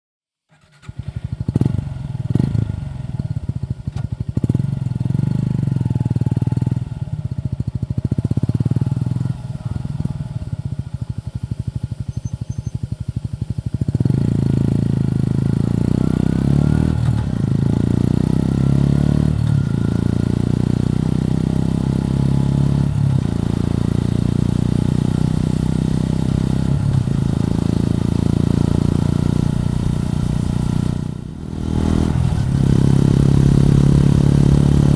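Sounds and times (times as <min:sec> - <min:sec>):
motorcycle engine running: 0:00.5 - 0:34.9.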